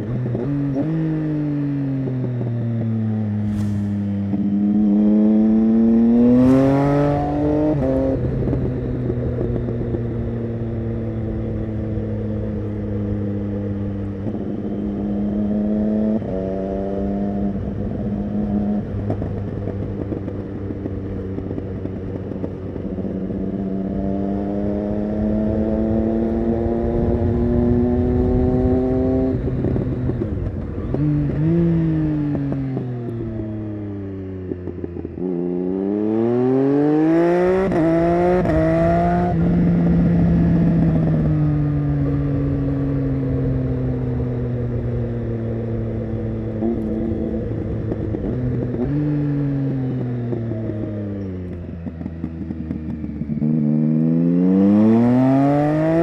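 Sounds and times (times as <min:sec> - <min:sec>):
motorcycle accelerating and slowing: 0:00.0 - 0:56.0.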